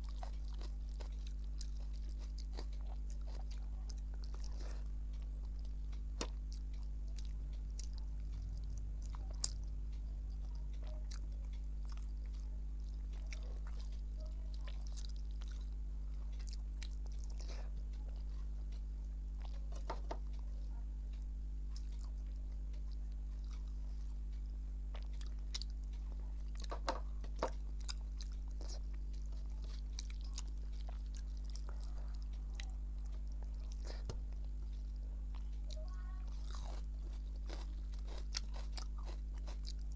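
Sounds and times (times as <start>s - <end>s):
low electrical hum: 0.0s - 39.9s
person chewing food: 0.0s - 39.9s.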